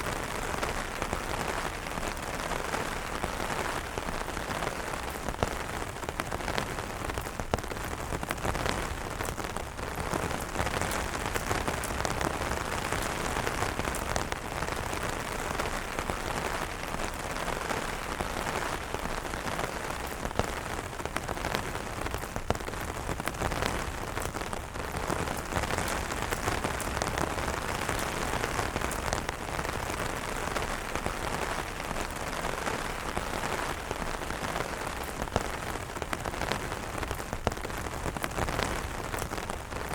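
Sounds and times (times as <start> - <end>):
rain falling on umbrellas: 0.0 - 39.9.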